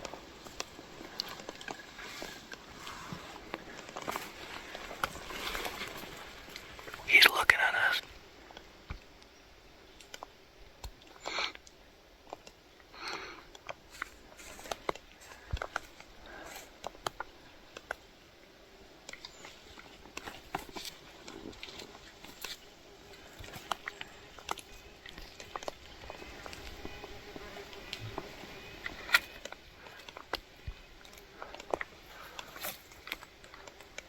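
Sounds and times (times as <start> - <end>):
faint clicks and rustles: 0.0 - 7.1, 8.0 - 34.0.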